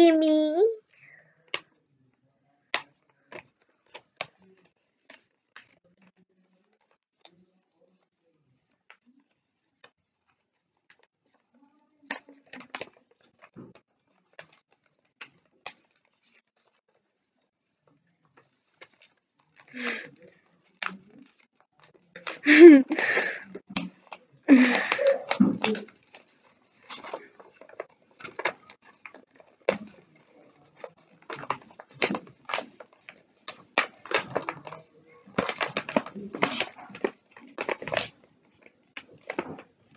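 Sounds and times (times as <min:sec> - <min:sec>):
paper crinkling and folding: 0:02.9 - 0:39.9.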